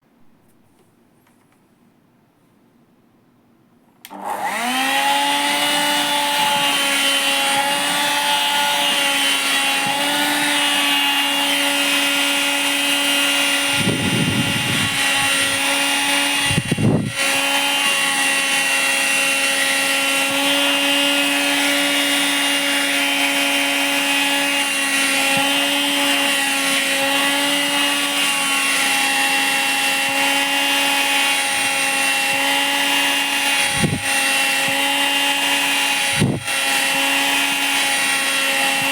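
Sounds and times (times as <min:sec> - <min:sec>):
vacuum cleaner running: 0:04.1 - 0:38.9.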